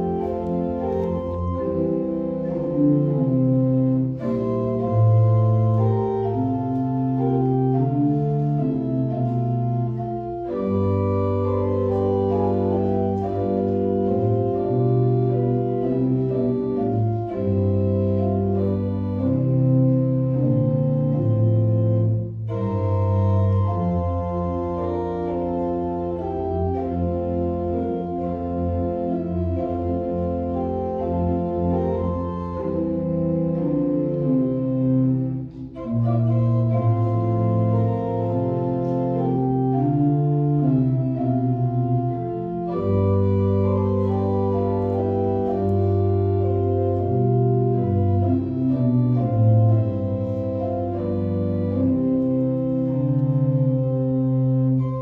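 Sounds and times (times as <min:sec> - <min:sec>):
church organ playing a hymn: 0:00.0 - 0:55.0.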